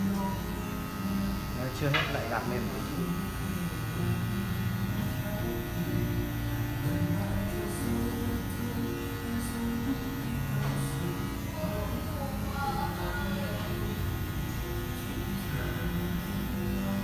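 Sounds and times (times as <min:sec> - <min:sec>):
background music: 0:00.0 - 0:17.0
electric hair clipper buzzing: 0:00.0 - 0:17.0.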